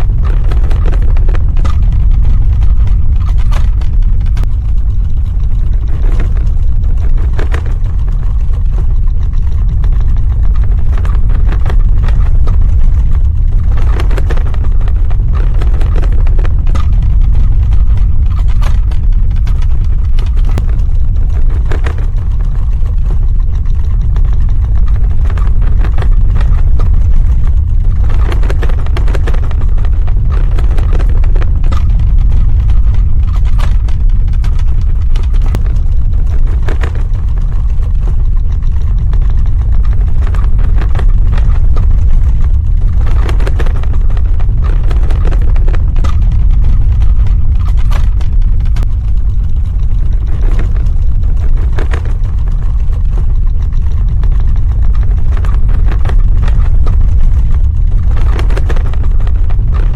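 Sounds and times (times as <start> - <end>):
crackling and rattling: 0.0 - 59.9
deep earthquake rumble: 0.0 - 59.9.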